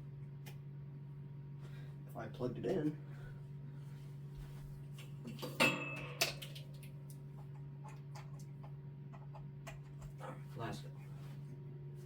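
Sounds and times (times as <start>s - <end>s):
fan motor hum: 0.0s - 12.0s.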